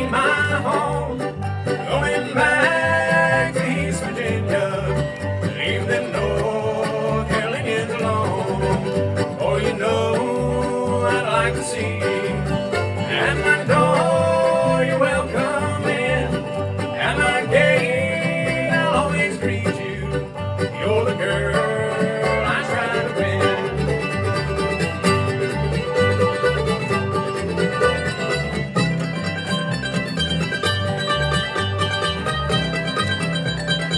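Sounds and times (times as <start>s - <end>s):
guitar: 0.0s - 33.9s
picked banjo: 0.0s - 33.9s
upright bass beat: 0.0s - 33.9s.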